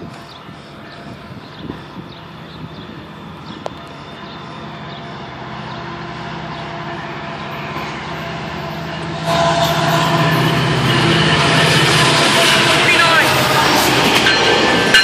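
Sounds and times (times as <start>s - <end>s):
diesel train engine hum: 0.0s - 15.0s.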